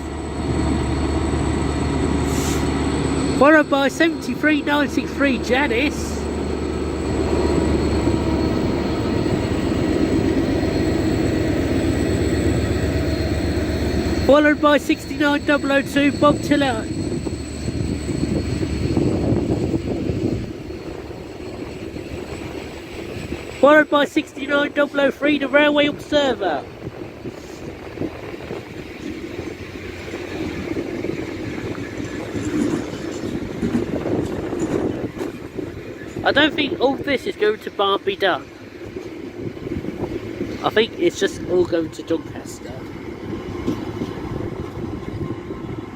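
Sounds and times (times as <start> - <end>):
diesel locomotives rumbling: 0.0 - 45.9
train wheels on rail: 0.0 - 45.9.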